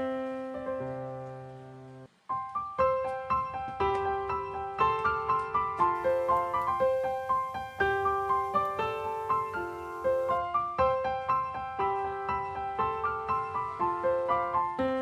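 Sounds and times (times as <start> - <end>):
gentle solo piano piece: 0.0 - 15.0.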